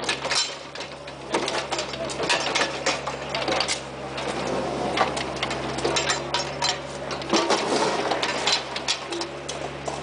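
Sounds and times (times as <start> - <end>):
excavator engine running: 0.0 - 10.0.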